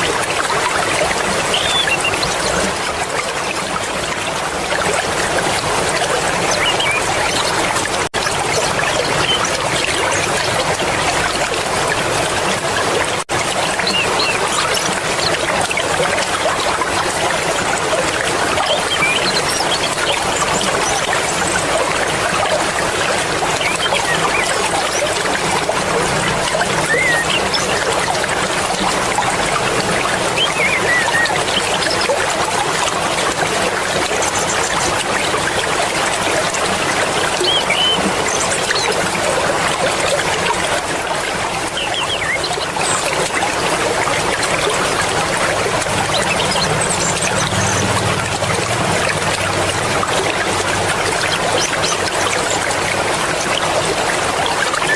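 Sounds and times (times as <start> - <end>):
river water rushing and splashing: 0.0 - 54.9.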